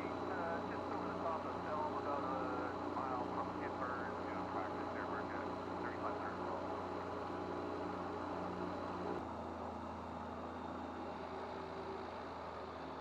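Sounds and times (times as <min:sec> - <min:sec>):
aircraft engine running: 0:00.0 - 0:13.0.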